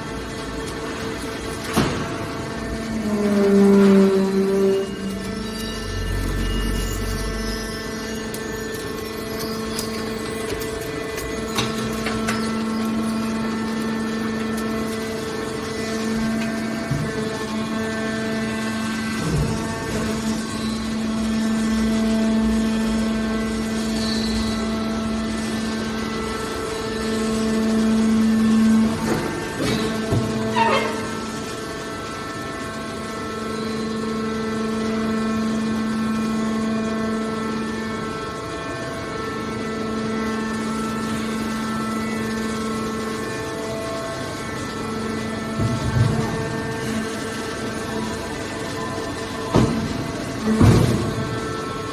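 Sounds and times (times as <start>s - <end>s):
hydraulic baler humming: 0.0s - 51.9s.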